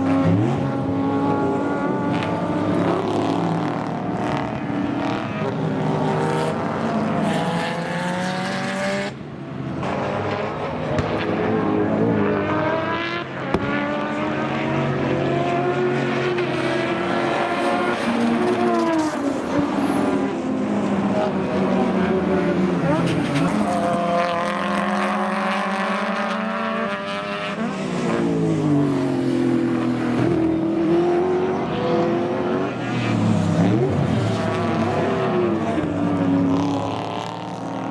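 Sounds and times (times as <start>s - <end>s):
race car engines revving: 0.0s - 37.9s.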